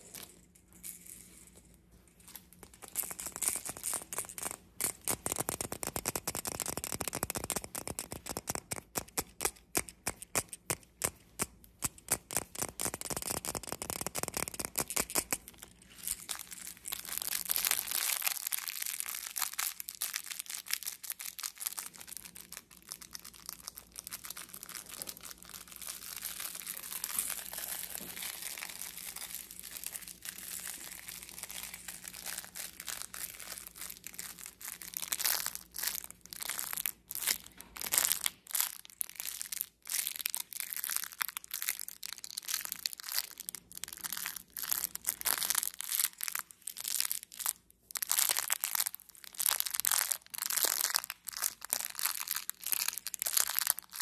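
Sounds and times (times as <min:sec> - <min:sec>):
plush rattle crackling when squeezed: 0:02.6 - 0:54.0.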